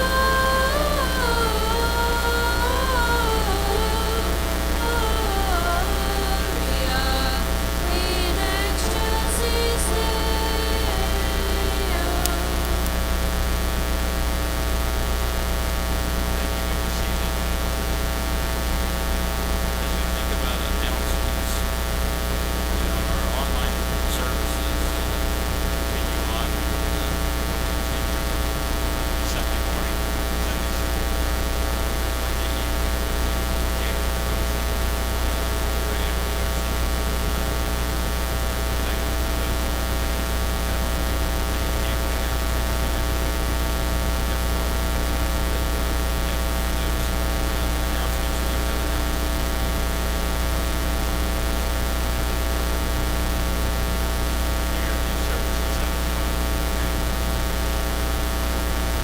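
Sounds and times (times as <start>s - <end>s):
electrical mains hum and buzz: 0.0s - 59.0s.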